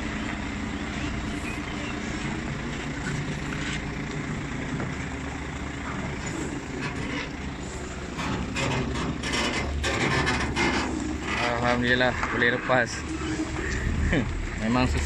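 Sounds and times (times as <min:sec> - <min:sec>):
crackling noise: 0:00.0 - 0:15.0
truck diesel engine droning: 0:00.0 - 0:15.0.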